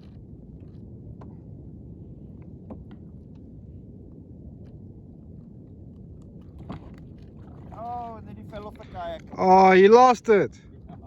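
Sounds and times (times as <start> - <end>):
wind and sea rumble: 0.0 - 11.0.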